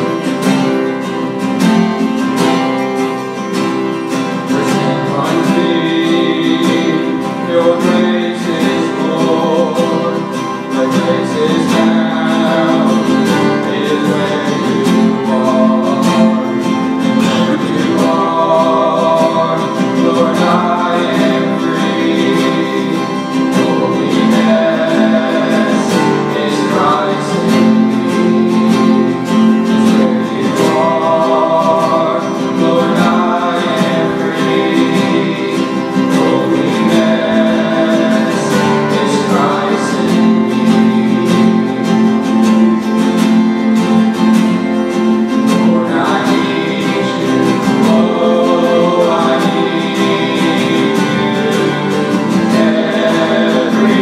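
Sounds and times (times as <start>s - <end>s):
acoustic guitars strummed: 0.0s - 54.0s
men singing worship song: 4.1s - 43.0s, 44.2s - 54.0s.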